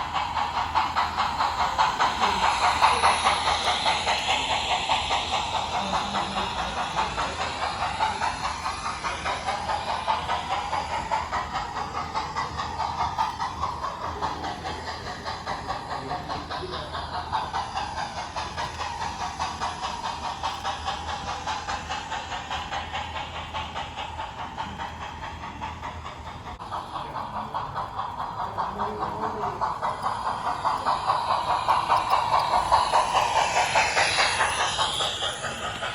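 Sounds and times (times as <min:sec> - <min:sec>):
model train wheels clattering: 0:00.0 - 0:35.9.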